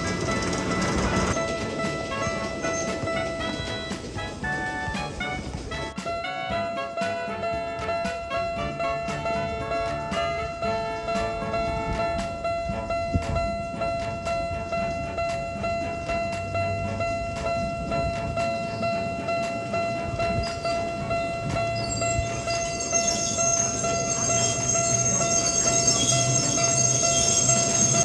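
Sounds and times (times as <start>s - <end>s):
level-crossing warning bell ringing: 0.0s - 28.0s
mini train running past: 0.0s - 28.0s.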